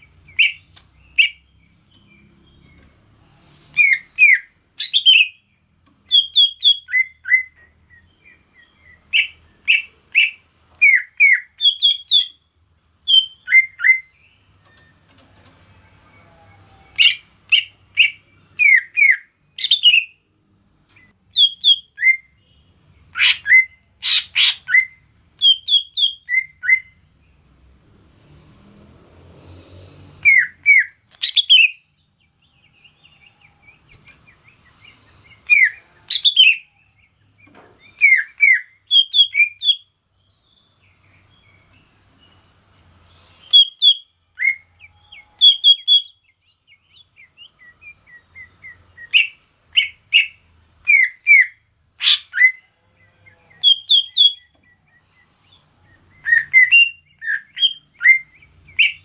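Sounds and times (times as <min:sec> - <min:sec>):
bird singing whistled notes: 0:00.0 - 0:02.8, 0:03.7 - 0:12.4, 0:13.0 - 0:15.0, 0:16.2 - 0:20.2, 0:21.0 - 0:27.0, 0:30.2 - 0:42.4, 0:43.1 - 0:59.0.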